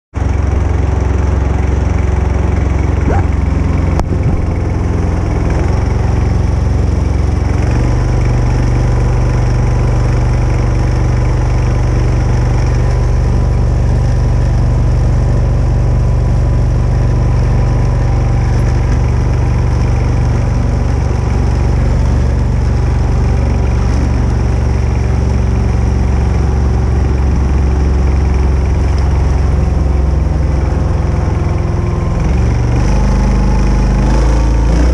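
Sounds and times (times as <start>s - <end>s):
kayak engine droning: 0.2s - 34.9s.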